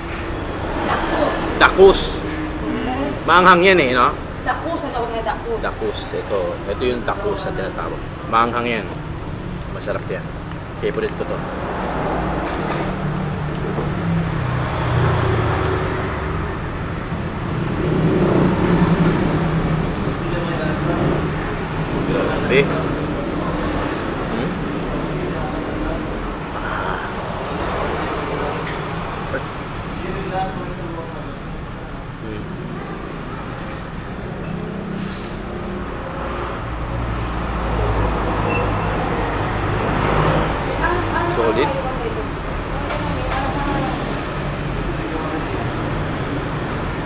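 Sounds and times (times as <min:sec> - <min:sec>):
road traffic noise: 0:00.0 - 0:47.0
street noise: 0:00.0 - 0:47.0
vehicle engine rumble: 0:06.0 - 0:47.0.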